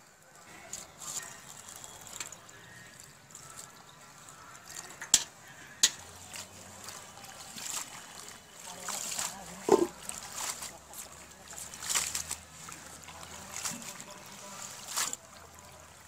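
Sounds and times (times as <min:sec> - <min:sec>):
water trickling onto greens: 0:00.0 - 0:16.0
hands swishing leaves in water: 0:00.3 - 0:16.0.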